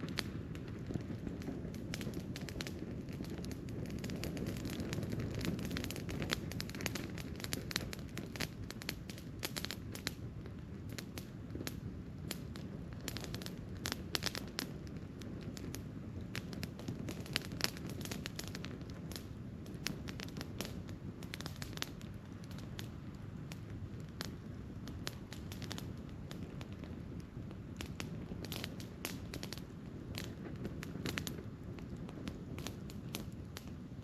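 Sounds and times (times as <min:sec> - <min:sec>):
campfire crackling and popping: 0:00.0 - 0:34.0
low rumble of flames: 0:00.0 - 0:34.0.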